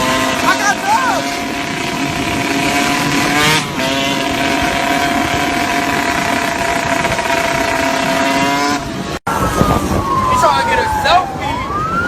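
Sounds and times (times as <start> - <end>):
motorcycle engine revving high: 0.0 - 10.2.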